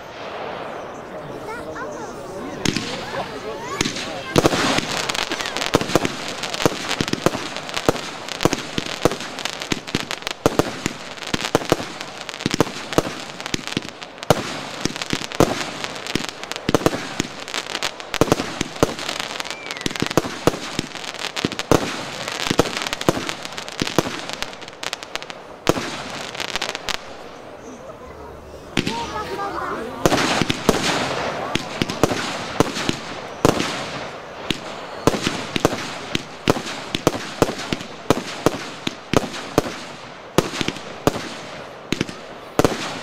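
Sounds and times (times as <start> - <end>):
firework cake firing shots: 2.6 - 27.2, 28.7 - 43.0.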